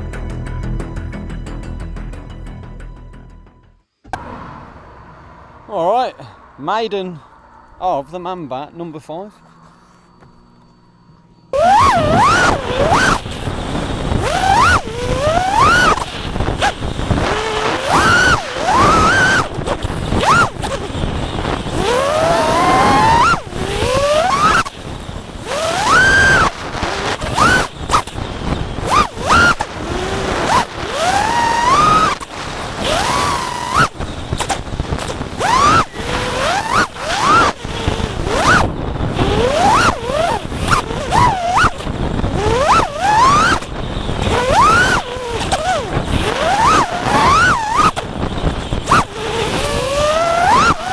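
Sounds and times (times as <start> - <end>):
quadcopter motors whining: 4.0 - 50.9
wind rush: 4.1 - 8.8, 11.6 - 50.9.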